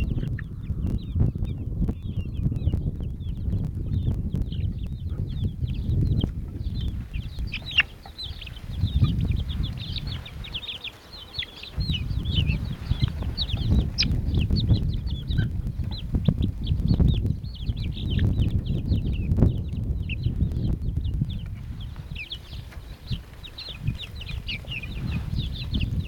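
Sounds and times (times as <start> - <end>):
chicks peeping and clucking: 0.0 - 26.0
low rumbling noise: 0.0 - 26.0.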